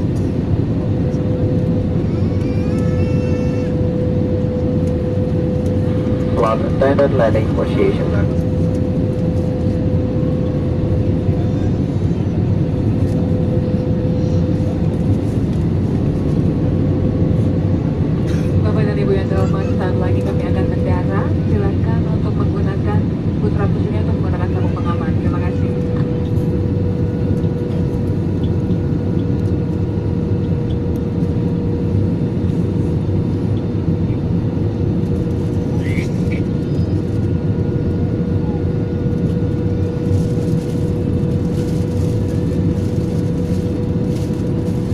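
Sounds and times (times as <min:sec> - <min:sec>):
aircraft cabin engine roar: 0:00.0 - 0:44.9.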